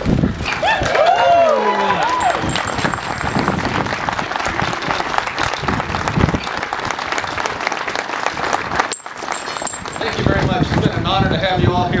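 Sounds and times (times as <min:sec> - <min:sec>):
crowd applauding: 0:00.5 - 0:10.5.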